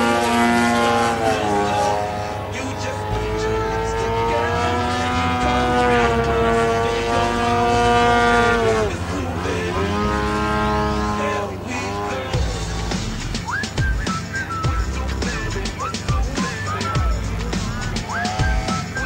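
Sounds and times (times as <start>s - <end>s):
model plane engine: 0.0s - 19.0s.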